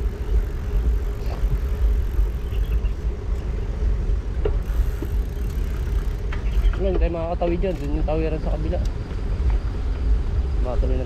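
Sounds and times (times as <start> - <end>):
steady hum: 0.0 - 11.0
wind buffeting microphone: 0.0 - 11.0.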